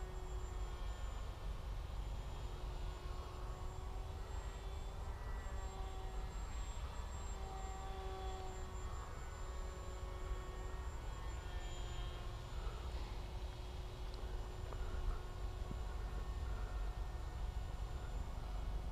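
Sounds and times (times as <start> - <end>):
model plane motor whining: 0.0 - 18.9.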